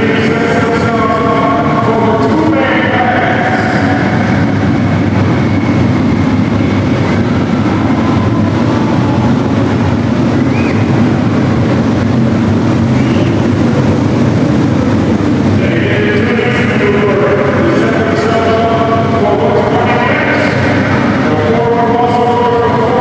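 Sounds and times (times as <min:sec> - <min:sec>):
motorcycle engines rumbling: 0:00.0 - 0:23.0.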